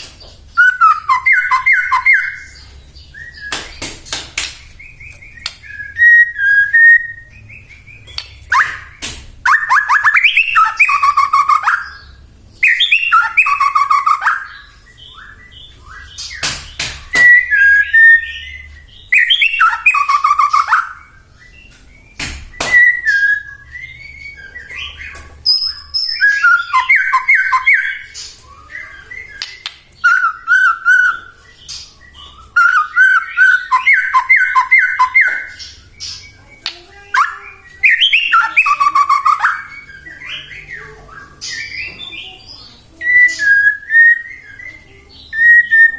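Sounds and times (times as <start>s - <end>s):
bird singing whistles and trills: 0.5s - 3.8s, 4.8s - 45.9s.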